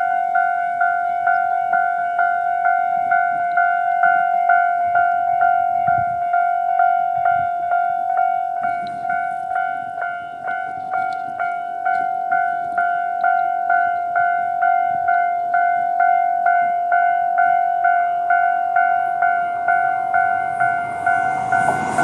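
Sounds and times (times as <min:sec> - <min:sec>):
electric train rumbling: 0:00.0 - 0:22.0
level crossing warning bell: 0:00.0 - 0:22.0.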